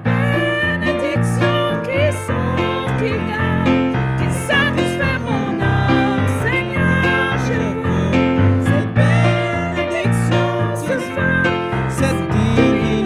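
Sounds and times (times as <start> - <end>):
woman singing with vibrato: 0.0 - 11.6
keyboard piano chords: 0.0 - 13.0.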